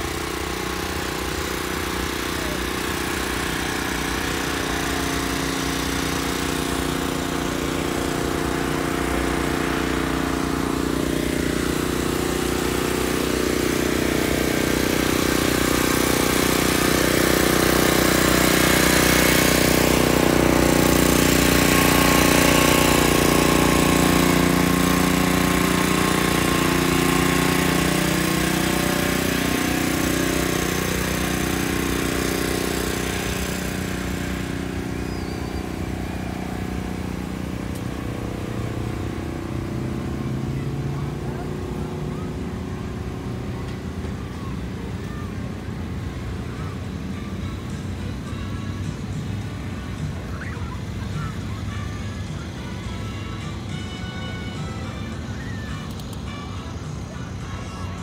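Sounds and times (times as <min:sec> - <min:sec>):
portable generator engine running: 0:00.0 - 0:58.0.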